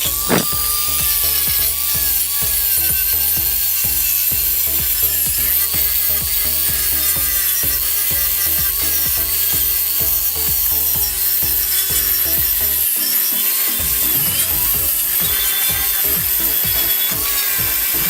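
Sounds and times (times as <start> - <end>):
background music with low thumps: 0.0 - 13.0, 13.8 - 18.0.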